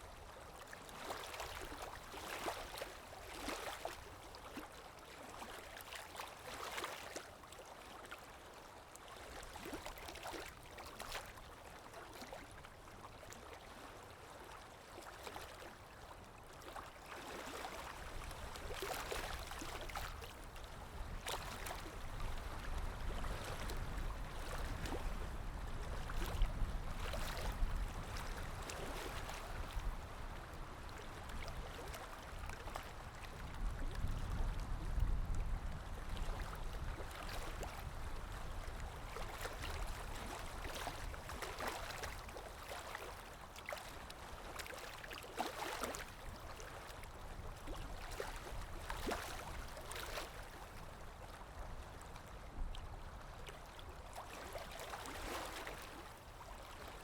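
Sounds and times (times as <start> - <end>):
small waves lapping: 0.0 - 57.0.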